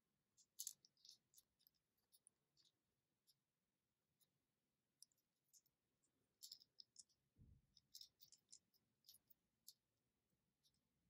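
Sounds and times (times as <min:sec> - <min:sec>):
plastic toy parts clicking: 0:00.3 - 0:03.5, 0:04.2 - 0:11.0.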